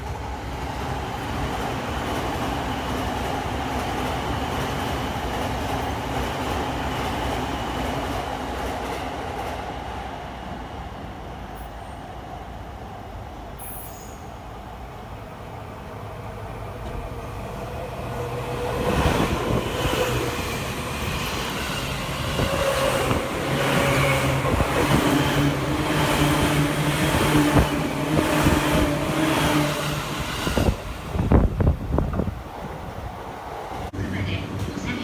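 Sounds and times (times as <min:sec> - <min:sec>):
electric train hum: 0:00.0 - 0:35.0.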